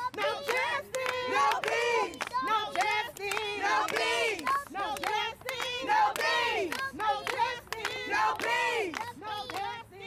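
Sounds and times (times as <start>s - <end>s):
protest crowd chanting and shouting: 0.0s - 10.0s.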